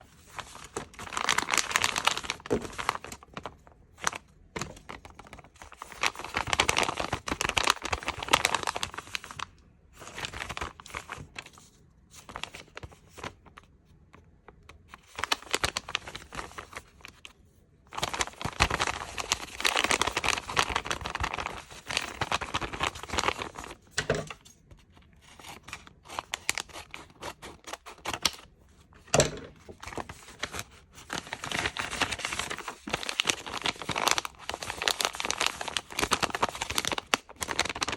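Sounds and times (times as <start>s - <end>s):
plastic packaging crinkling: 0.1s - 11.6s, 12.2s - 13.6s, 14.8s - 17.3s, 17.9s - 37.9s.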